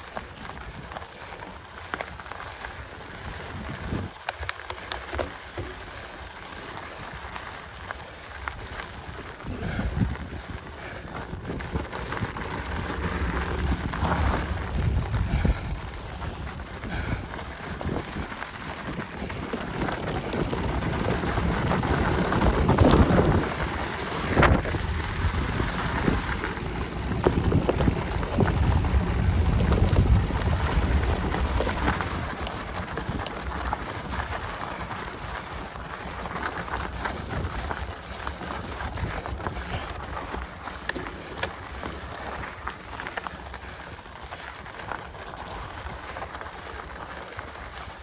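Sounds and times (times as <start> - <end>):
bike rattling and rumbling: 0.0 - 48.0
wind buffeting microphone: 2.2 - 44.1.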